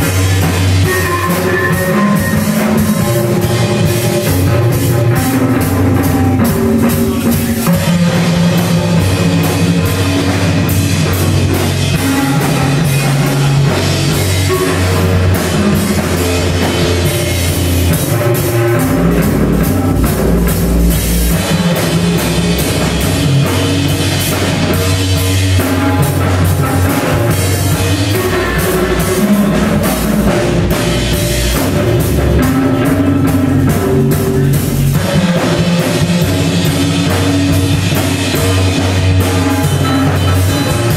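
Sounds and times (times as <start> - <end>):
drum kit hit hard: 0.0 - 40.9
live rock band playing: 0.0 - 40.9.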